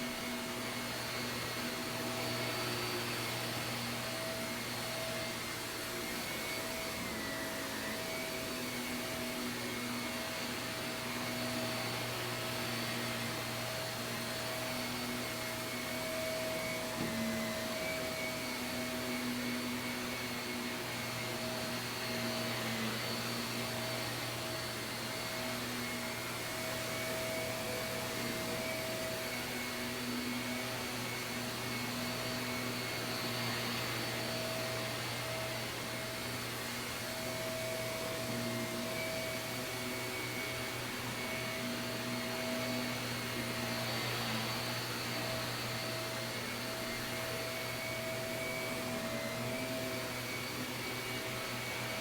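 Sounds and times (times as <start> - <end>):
vacuum cleaner running on carpet: 0.0 - 52.0.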